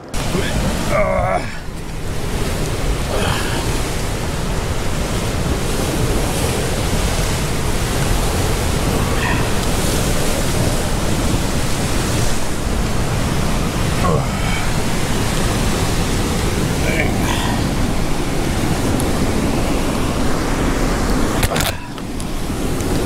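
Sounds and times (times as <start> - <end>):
ocean surf breaking on rocks: 0.0 - 23.0
wind: 0.0 - 23.0.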